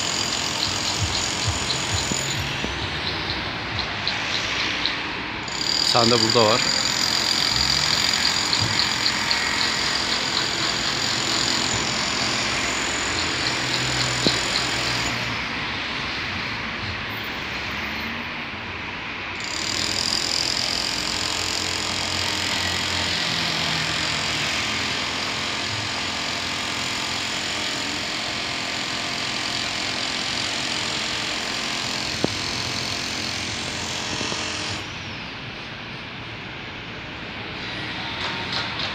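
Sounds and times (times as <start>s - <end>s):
outdoor rumble and hiss: 0.0s - 38.9s.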